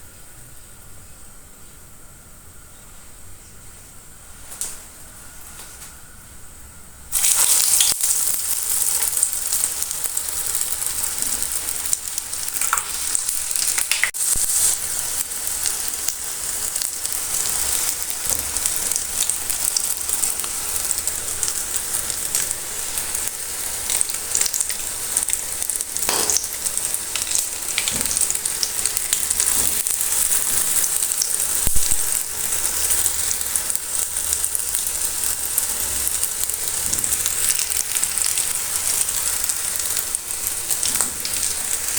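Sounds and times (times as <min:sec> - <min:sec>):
food sizzling in hot oil: 0:07.1 - 0:41.9.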